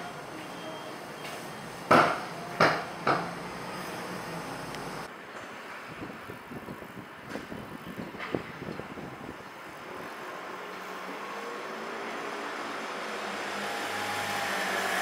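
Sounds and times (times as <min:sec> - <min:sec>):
low street hum: 0:00.0 - 0:15.0.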